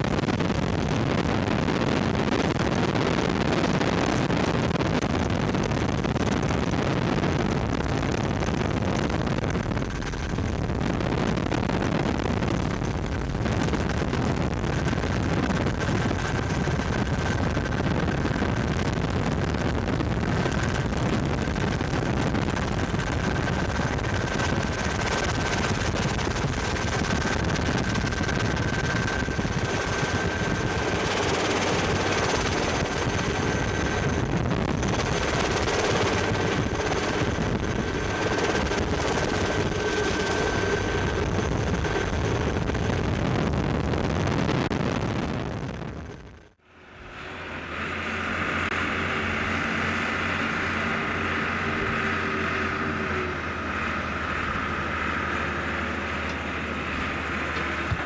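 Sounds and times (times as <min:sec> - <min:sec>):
helicopter rotor and engine: 0:00.0 - 0:43.3, 0:46.1 - 0:58.0
thin steady whine: 0:00.0 - 0:58.0.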